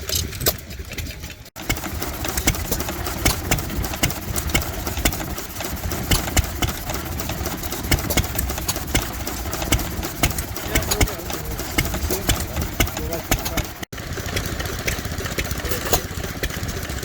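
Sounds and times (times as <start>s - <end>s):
stationary engine running with knocks: 0.0s - 17.0s.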